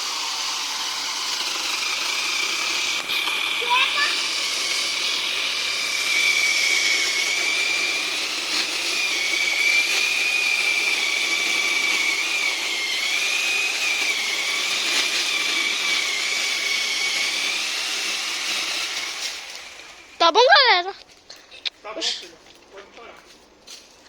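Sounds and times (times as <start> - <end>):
chainsaw running: 0.0 - 20.9.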